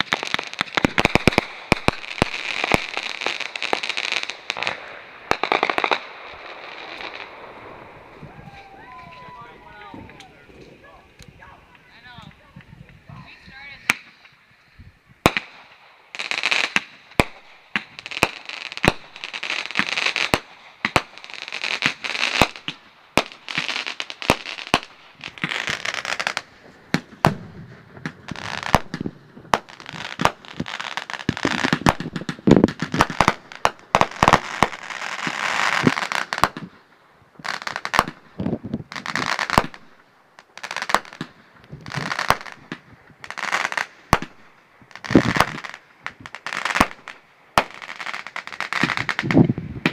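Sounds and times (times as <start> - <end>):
fireworks bangs: 0.0 - 14.5, 15.2 - 49.9
fireworks hissing crackle: 0.0 - 49.9.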